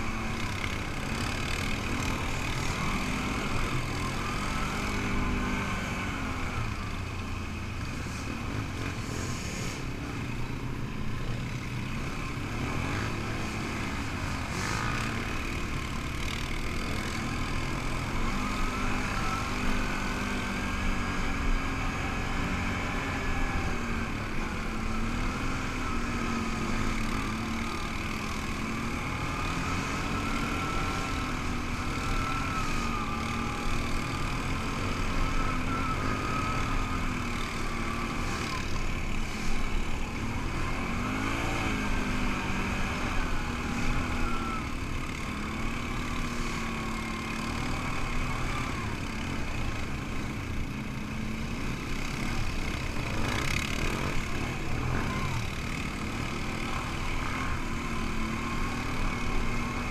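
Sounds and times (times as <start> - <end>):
atv engine running: 0.0 - 59.9
engine whine: 0.0 - 59.9.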